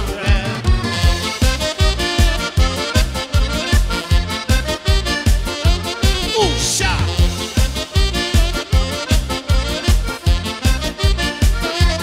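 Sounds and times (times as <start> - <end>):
polka band with accordion: 0.0 - 12.0.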